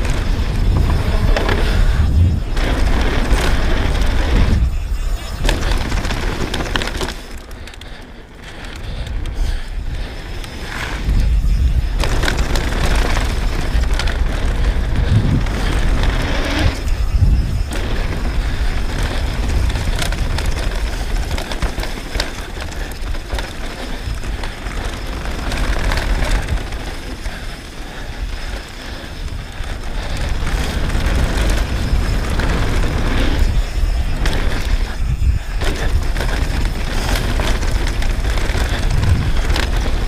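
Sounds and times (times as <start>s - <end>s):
bike knocking and rattling: 0.0s - 40.0s
bike tyres on dirt and gravel: 0.0s - 40.0s.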